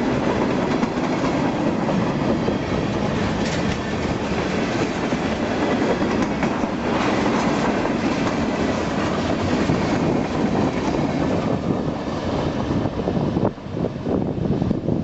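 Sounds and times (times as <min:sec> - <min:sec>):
clickety-clack over rail joints: 0:00.0 - 0:12.7
train wheels rumbling on rail: 0:00.0 - 0:15.0.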